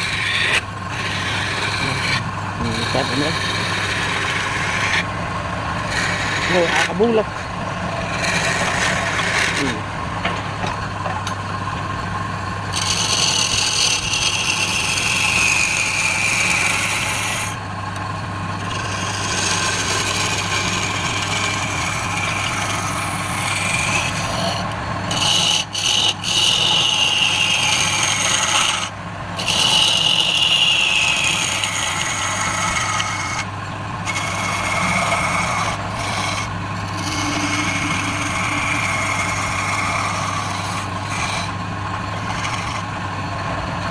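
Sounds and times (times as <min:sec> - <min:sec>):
turning tool scraping wood: 0:00.0 - 0:12.0, 0:12.7 - 0:43.9
wood lathe humming: 0:00.0 - 0:43.9.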